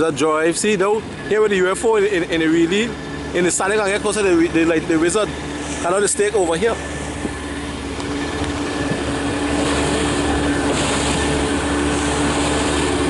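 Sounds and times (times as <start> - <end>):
motorboat engine humming: 0.0 - 13.0
wind and water rushing: 0.0 - 13.0.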